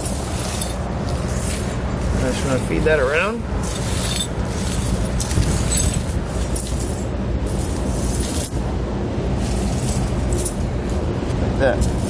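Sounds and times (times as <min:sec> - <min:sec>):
chain dragged over concrete: 0:00.0 - 0:08.8, 0:09.4 - 0:11.0, 0:11.8 - 0:12.0
tire chain links rattling: 0:00.0 - 0:08.8, 0:09.4 - 0:11.1, 0:11.7 - 0:12.0
steady low hum: 0:00.0 - 0:12.0.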